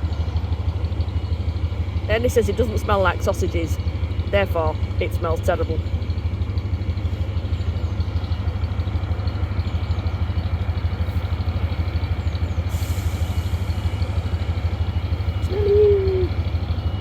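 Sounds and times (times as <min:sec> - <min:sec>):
boat engine pulsing: 0:00.0 - 0:17.0.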